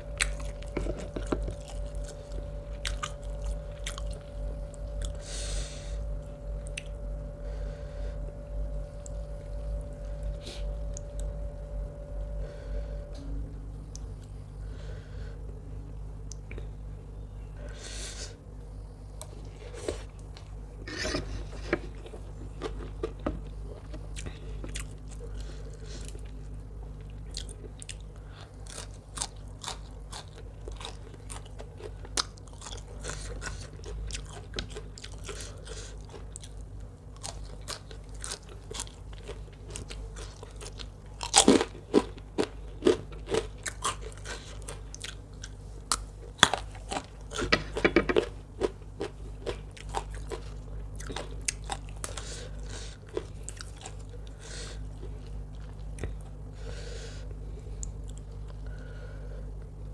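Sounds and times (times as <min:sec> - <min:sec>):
person chewing crunchy food: 0:00.0 - 0:11.6, 0:19.2 - 0:59.8.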